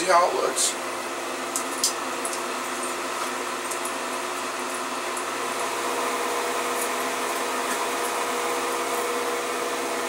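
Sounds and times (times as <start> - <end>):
small fan motor whirring: 0.8 - 10.0.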